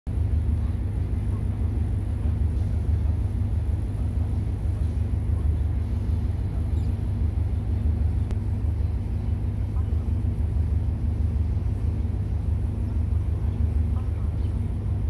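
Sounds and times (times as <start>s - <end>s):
diesel locomotive engine rumble: 0.1s - 15.0s.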